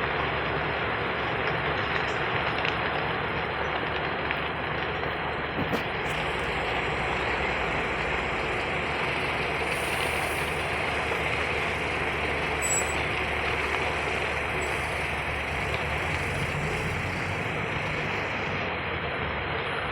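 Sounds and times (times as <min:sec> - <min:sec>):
fire whirl roaring: 0:00.0 - 0:19.9.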